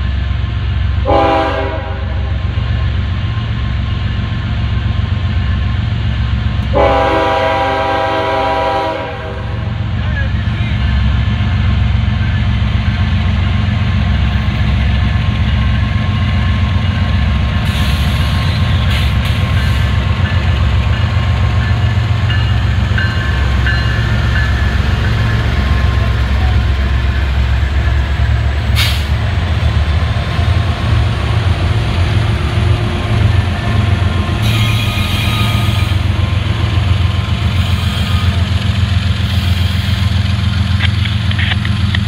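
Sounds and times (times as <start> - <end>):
diesel locomotives rumbling past: 0.0 - 42.0.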